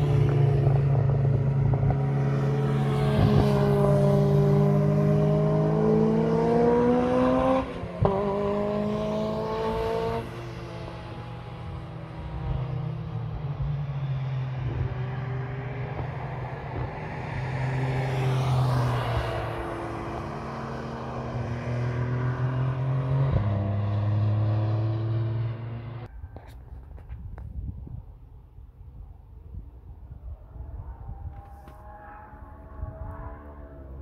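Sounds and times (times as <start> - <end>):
sports car engine passing: 0.0 - 26.1, 29.4 - 34.0.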